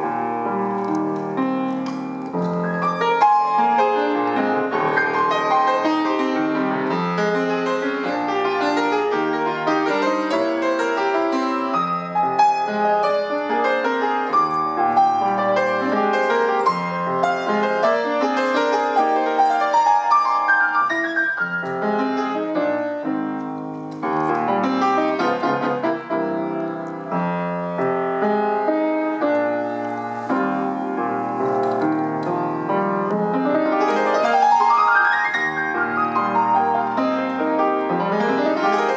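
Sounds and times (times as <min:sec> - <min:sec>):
solo acoustic piano: 0:00.0 - 0:38.9.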